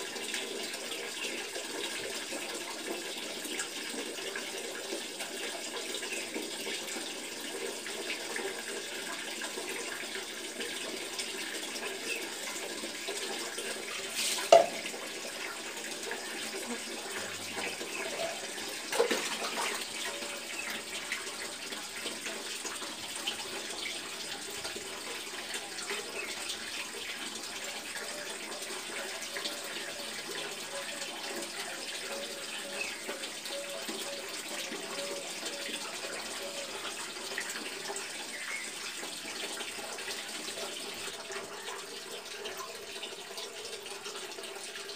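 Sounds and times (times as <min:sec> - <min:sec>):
running water from a tap: 0:00.0 - 0:44.9.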